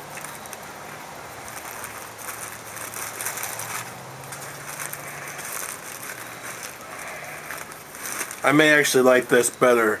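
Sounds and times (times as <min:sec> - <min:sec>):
paper wrapper crinkling: 0:00.0 - 0:10.0.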